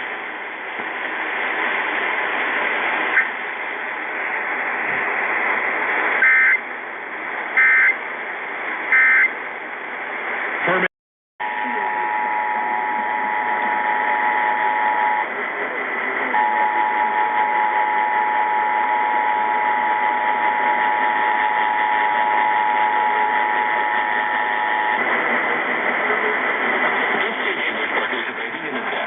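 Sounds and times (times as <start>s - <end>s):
static hiss: 0.0s - 29.0s.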